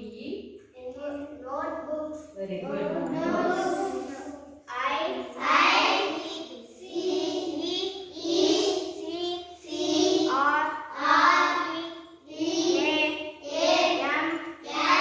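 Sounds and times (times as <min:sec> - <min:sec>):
girl reading words aloud: 0:00.8 - 0:15.0.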